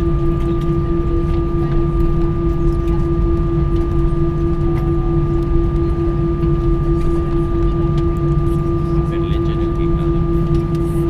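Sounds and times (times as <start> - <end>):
airplane cabin droning tone: 0.0 - 11.0
low cabin rumble: 0.0 - 11.0.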